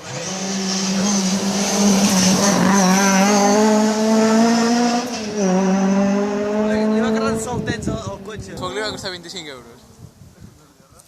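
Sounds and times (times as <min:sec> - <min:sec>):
rally car engine at high revs: 0:00.0 - 0:09.3.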